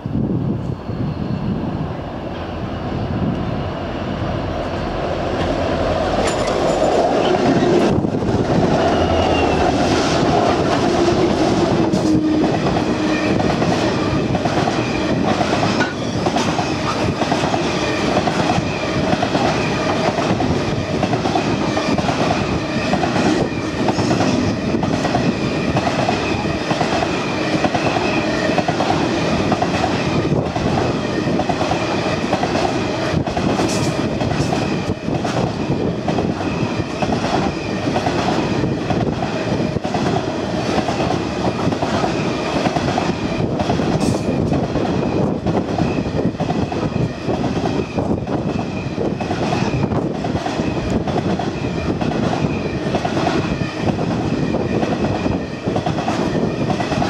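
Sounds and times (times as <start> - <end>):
diesel locomotive passing: 0.0 - 57.0
train wheels clickety-clack: 6.2 - 57.0.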